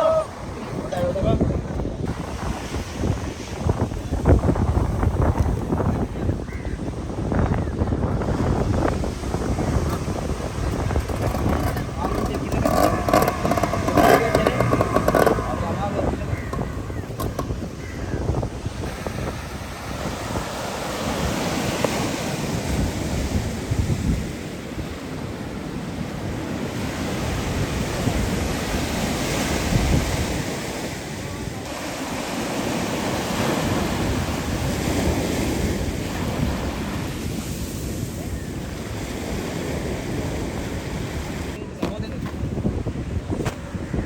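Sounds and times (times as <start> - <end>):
surf washing on shore: 0.0 - 44.0
wind buffeting microphone: 0.0 - 44.0.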